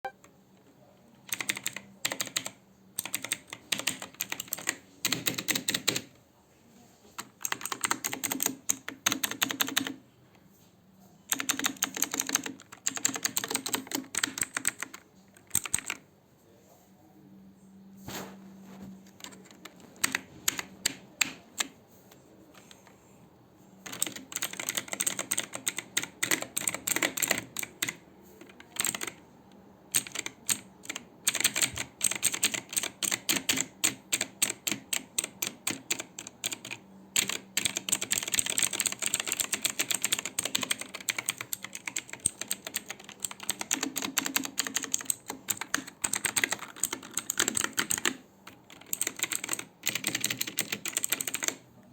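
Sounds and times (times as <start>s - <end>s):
computer keyboard typing: 1.2s - 6.1s, 7.2s - 10.0s, 11.3s - 16.0s, 19.0s - 23.1s, 23.8s - 29.2s, 29.9s - 51.6s.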